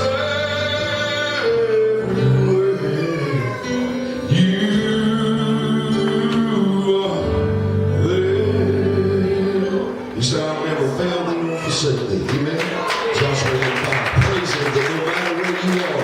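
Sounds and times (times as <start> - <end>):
live gospel song: 0.0 - 16.0.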